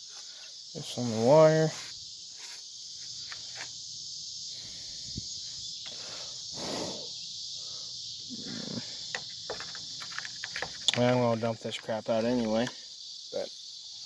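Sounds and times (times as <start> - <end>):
insects chirring: 0.0 - 14.0
rustle: 0.0 - 14.0.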